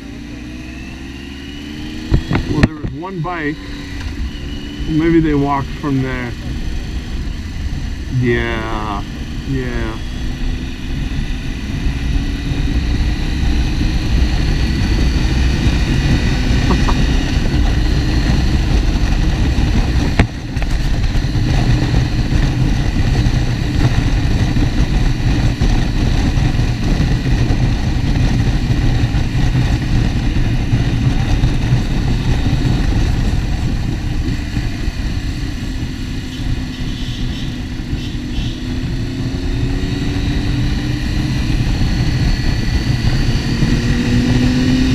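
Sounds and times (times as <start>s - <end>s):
motorcycle engine running: 0.0s - 44.9s
wind rumble on microphone: 0.0s - 44.9s.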